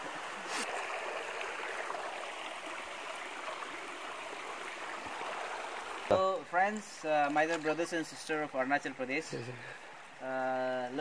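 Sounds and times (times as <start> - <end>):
river water rushing: 0.0 - 8.8.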